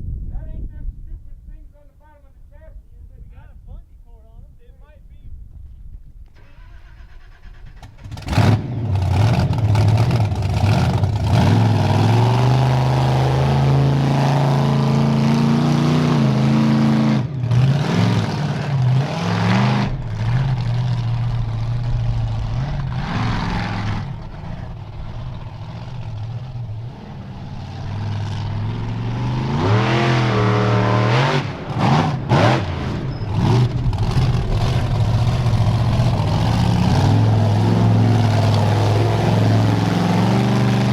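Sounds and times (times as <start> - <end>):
monster truck engine revving: 6.6 - 40.9.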